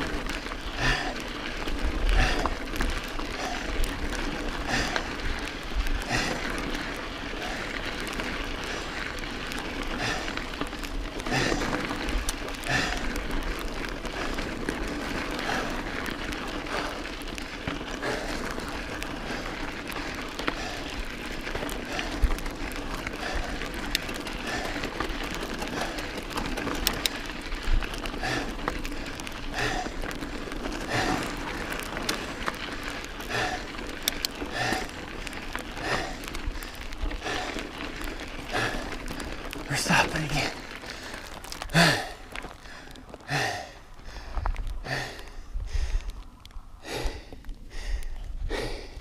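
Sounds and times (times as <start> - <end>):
tyres crunching on gravel: 0.0 - 48.3
bike knocking and rattling: 0.0 - 49.0
rider breathing hard: 0.0 - 49.0.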